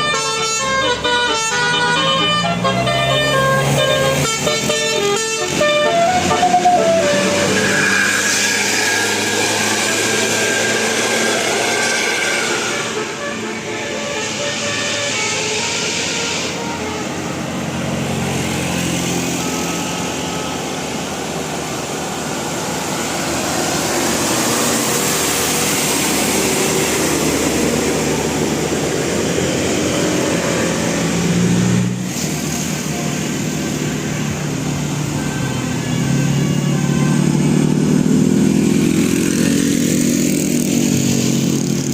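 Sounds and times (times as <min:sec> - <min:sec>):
vehicle passing close by: 0:02.2 - 0:35.1, 0:36.1 - 0:41.9.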